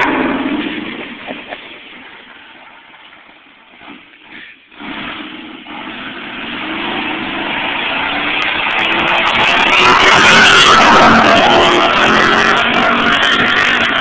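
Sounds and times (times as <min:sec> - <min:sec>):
truck engine revving in snow: 0:00.0 - 0:03.0, 0:03.7 - 0:14.0.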